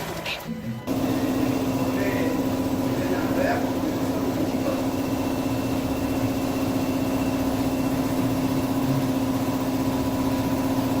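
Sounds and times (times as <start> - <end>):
diesel engine idling: 0.9 - 11.0.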